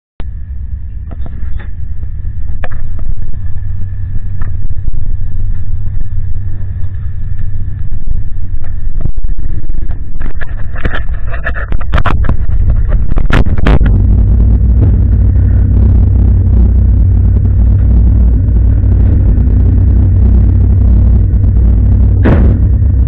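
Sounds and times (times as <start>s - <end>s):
car engine idling: 0.2s - 23.0s.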